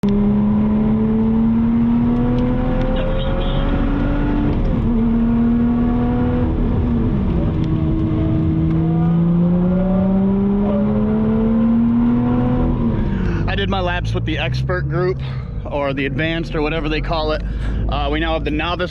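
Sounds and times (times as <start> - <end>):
car engine accelerating hard: 0.0 - 18.9.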